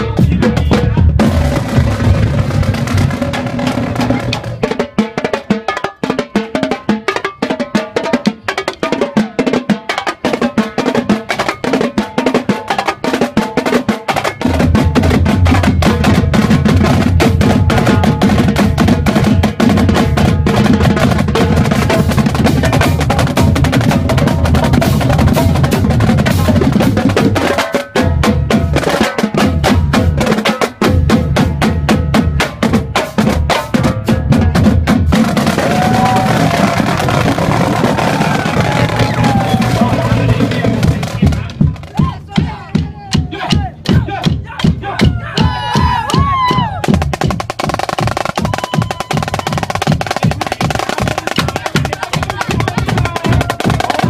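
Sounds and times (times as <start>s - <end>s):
bass drums: 0.0s - 5.5s, 10.7s - 54.0s
marching drumline cadence: 0.0s - 54.0s.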